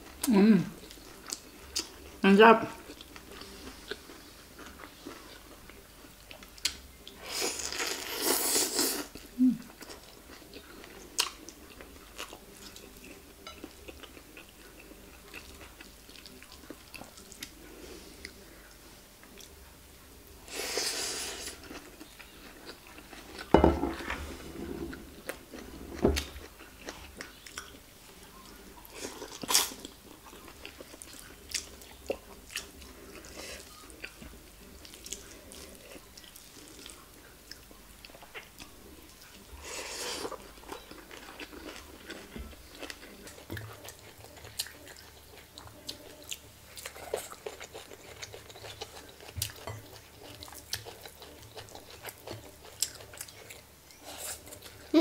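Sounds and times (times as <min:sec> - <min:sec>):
person chewing food: 0:00.0 - 0:02.2, 0:02.8 - 0:19.6, 0:20.6 - 0:55.0.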